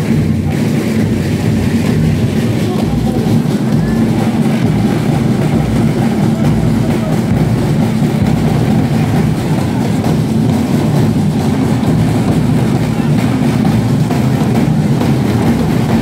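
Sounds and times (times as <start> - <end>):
snare and bass drums: 0.0 - 16.0.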